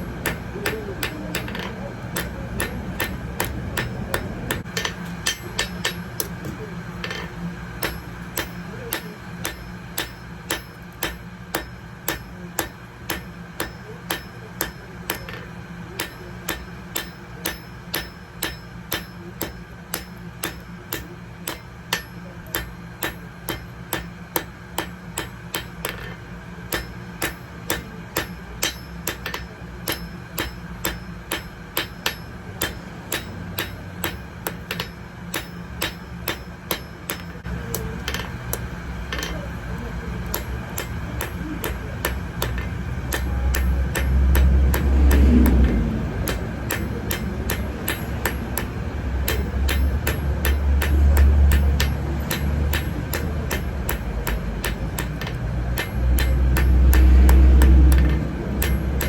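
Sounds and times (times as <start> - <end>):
hammer striking metal on anvil: 0.0 - 59.0
steady low hum: 0.0 - 59.0.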